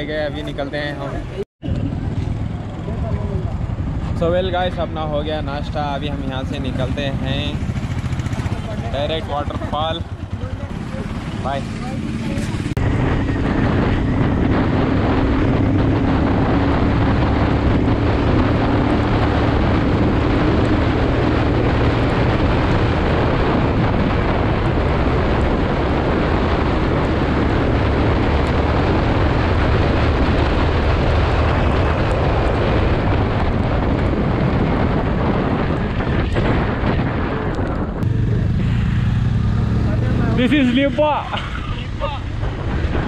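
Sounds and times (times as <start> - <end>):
motorcycle engine drone: 0.0 - 43.0
wind rush on microphone: 0.0 - 43.0.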